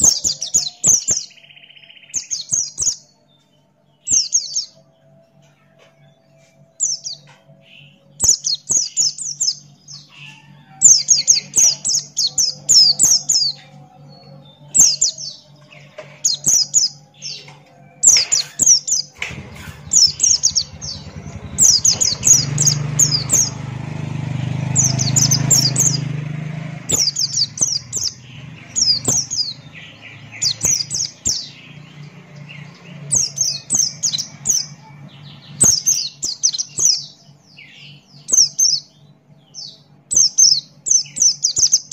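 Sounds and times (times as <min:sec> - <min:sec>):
bird twittering trills: 0:00.0 - 0:41.9.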